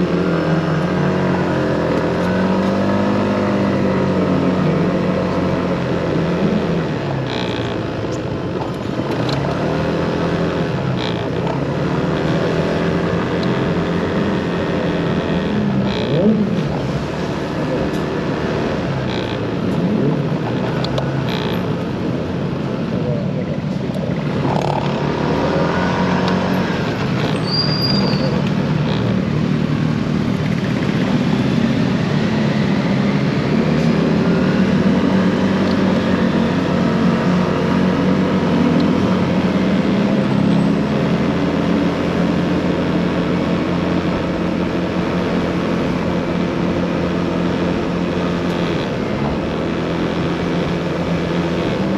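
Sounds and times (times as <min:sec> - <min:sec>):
motorcycle engine revving: 0:00.0 - 0:23.5, 0:24.1 - 0:51.9
road noise: 0:00.0 - 0:51.9.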